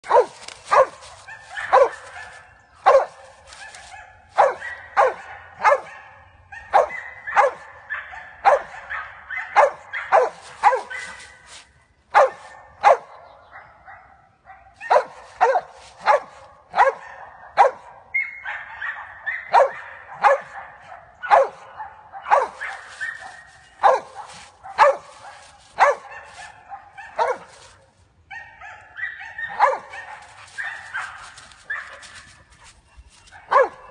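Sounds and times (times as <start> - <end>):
dog barking: 0.0 - 33.9.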